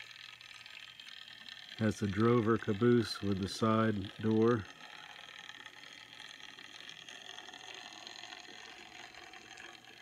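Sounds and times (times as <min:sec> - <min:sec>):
model locomotive motor whirring: 0:00.0 - 0:10.0.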